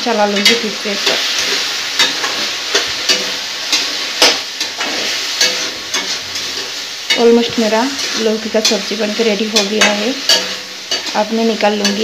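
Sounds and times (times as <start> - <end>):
food sizzling in frying: 0.0 - 12.0
spatula scraping metal pan: 0.4 - 12.0.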